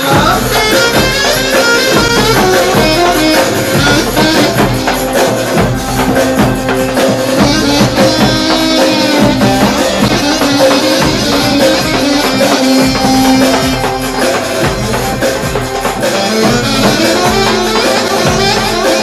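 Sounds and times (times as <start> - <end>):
loud music with percussive beat: 0.0 - 19.0.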